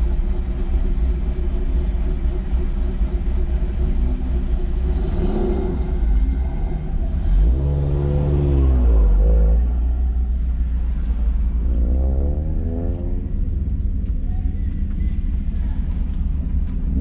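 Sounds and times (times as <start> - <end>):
car engine driven hard: 0.0 - 17.0
road and wind noise: 0.0 - 17.0.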